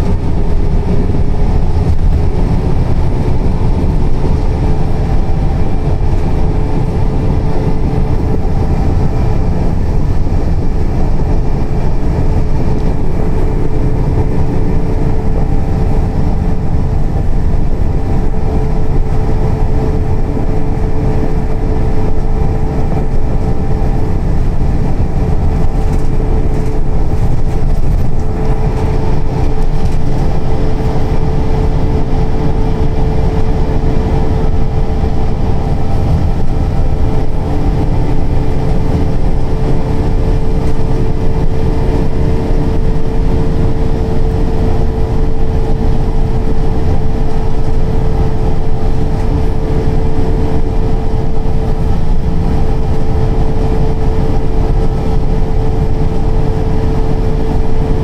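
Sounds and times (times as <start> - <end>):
constant whine: 0.0 - 58.0
diesel engine and road rumble: 0.0 - 58.0.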